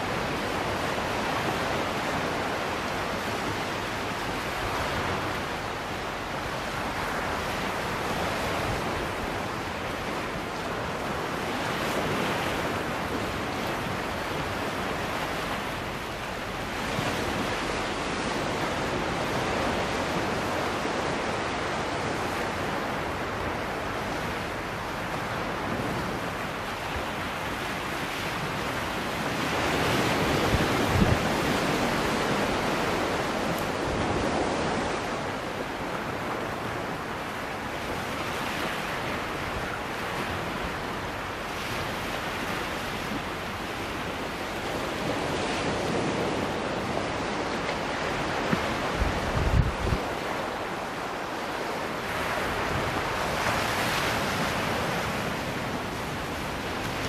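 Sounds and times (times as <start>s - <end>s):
sea waves washing against rocks: 0.0s - 57.0s.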